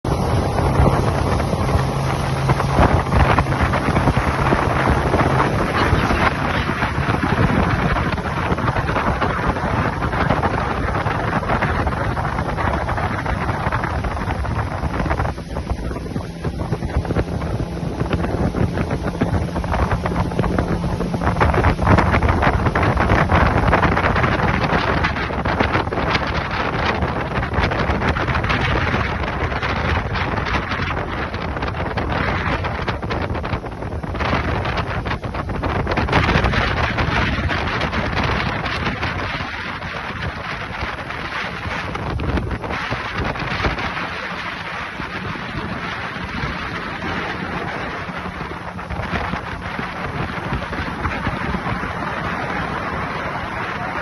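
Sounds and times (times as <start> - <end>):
outboard engines humming: 0.0 - 54.0
wind on microphone: 0.0 - 54.0.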